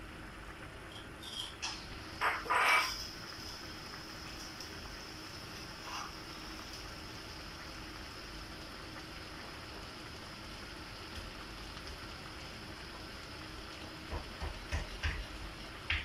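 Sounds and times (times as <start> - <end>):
vegetables sizzling in frying pan: 0.0 - 16.0.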